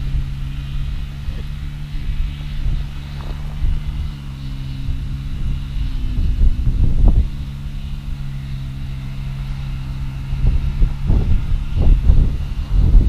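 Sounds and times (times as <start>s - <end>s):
low motor hum: 0.0s - 13.0s
wind buffeting microphone: 0.0s - 13.0s.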